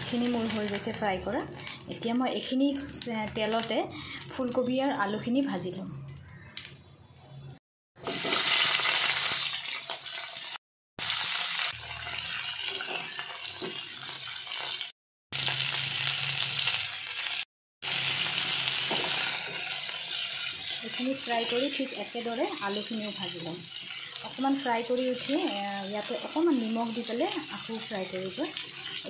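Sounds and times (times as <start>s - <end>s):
food sizzling in hot oil: 0.0s - 5.4s, 8.0s - 29.0s.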